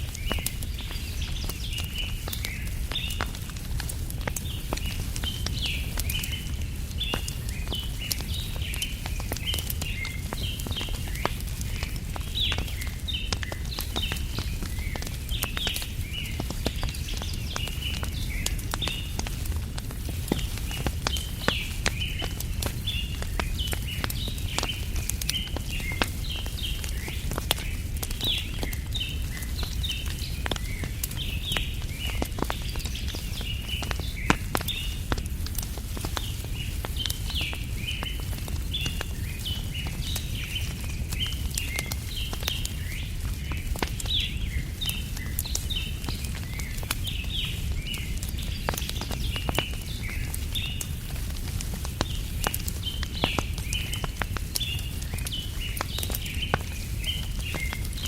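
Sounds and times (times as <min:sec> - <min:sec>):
campfire crackling and popping: 0:00.0 - 0:58.0
small birds chirping: 0:00.0 - 0:58.0.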